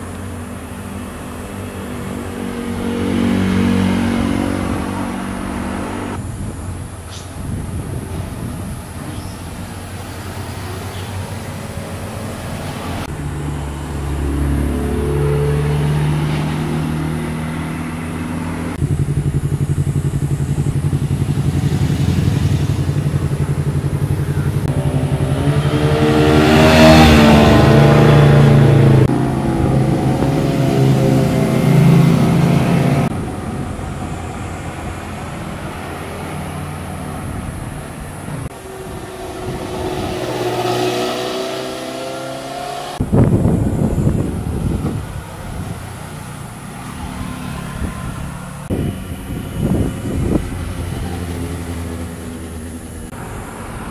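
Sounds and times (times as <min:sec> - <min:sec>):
car engines revving past: 0:00.0 - 0:06.4, 0:07.3 - 0:53.9
motorcycle engines revving past: 0:00.0 - 0:53.9.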